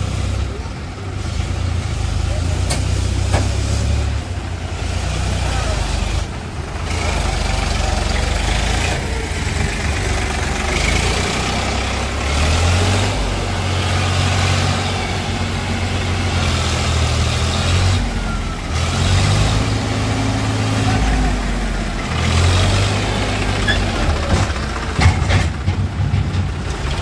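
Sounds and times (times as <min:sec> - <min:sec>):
tractor diesel engine revving: 0:00.0 - 0:27.0.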